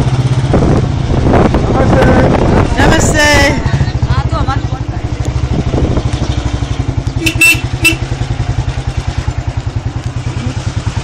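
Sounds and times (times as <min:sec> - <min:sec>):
motorcycle engine running slowly: 0:00.0 - 0:11.0.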